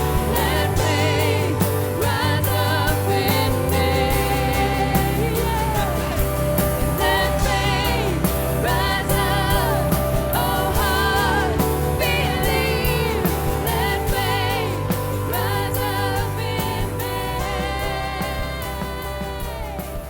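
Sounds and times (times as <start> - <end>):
band with bass and drums: 0.0 - 20.0.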